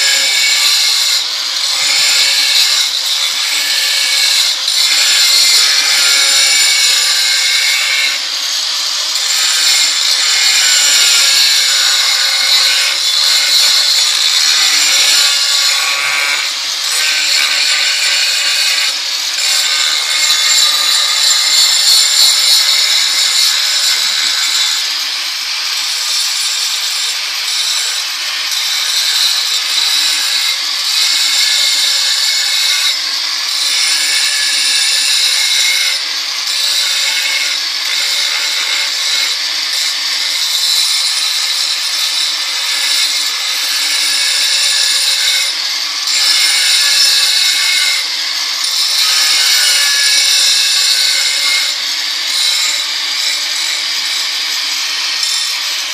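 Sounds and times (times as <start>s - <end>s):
angle grinder grinding stone: 0.0s - 55.9s.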